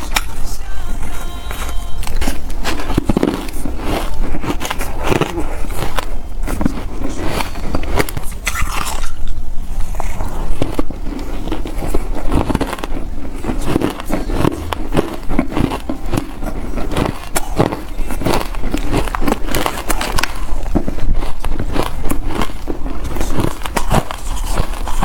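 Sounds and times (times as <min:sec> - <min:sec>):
shaved ice being chewed: 0:00.0 - 0:25.0.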